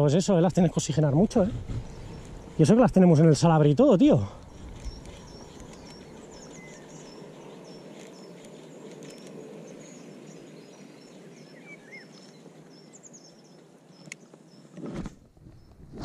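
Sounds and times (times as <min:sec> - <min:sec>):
riverside ambience rush: 0:00.0 - 0:14.4
small birds chirping: 0:00.0 - 0:14.8.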